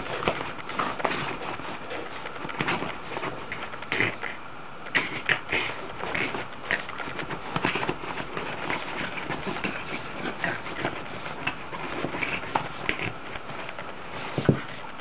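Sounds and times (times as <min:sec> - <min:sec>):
fabric scuffling and rustling: 0:00.0 - 0:04.2, 0:04.9 - 0:15.0.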